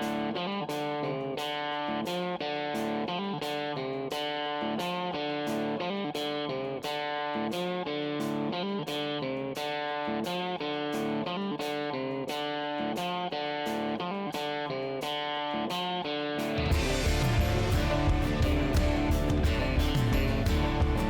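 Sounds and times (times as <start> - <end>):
guitar picking steady rhythm: 0.0 - 21.0.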